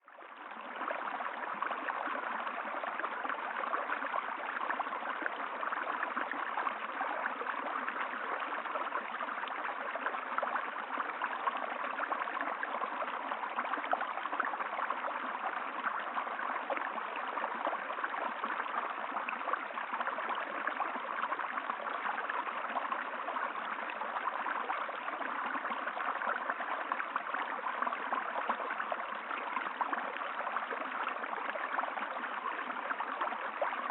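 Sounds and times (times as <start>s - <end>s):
river water flowing over stones: 0.1s - 33.9s.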